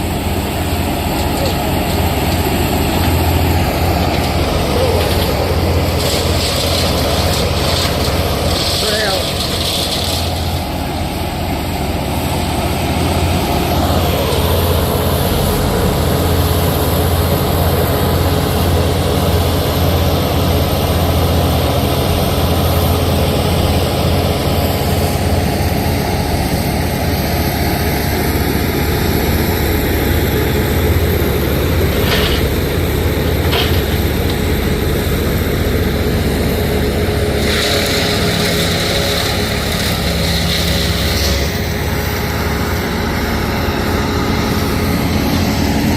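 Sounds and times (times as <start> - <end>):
heavy engine running: 0.0 - 45.9.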